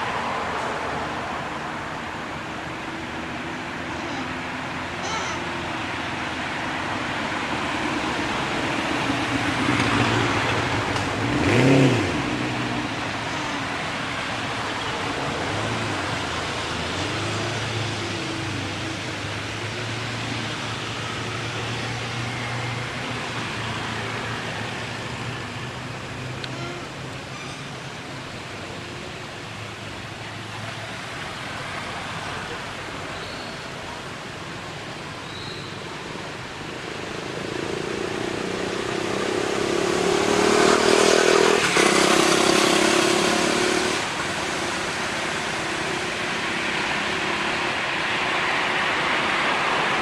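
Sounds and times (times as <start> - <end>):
road noise: 0.0 - 50.0
vehicle engine hum: 0.0 - 50.0.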